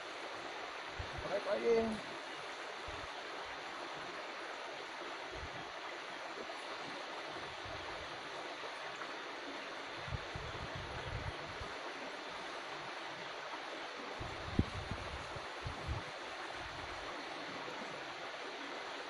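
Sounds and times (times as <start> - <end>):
water flowing in a stream: 0.0 - 19.0.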